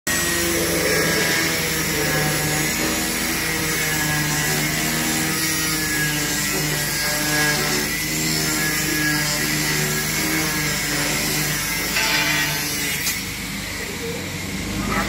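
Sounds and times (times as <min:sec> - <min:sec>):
angle grinder cutting metal: 0:00.1 - 0:15.0.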